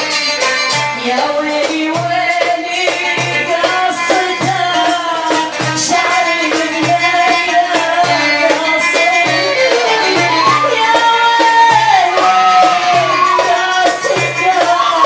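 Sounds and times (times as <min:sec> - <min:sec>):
jingling tambourine: 0:00.0 - 0:15.0
low hand-drum beat: 0:01.6 - 0:15.0.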